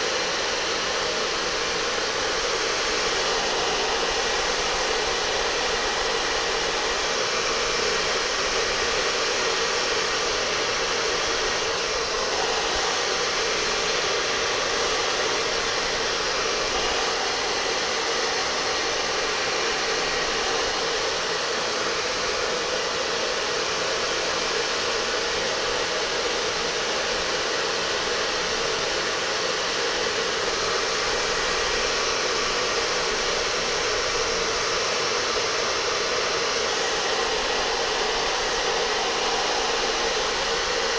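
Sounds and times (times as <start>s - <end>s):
electric blower rushing air: 0.0s - 40.9s.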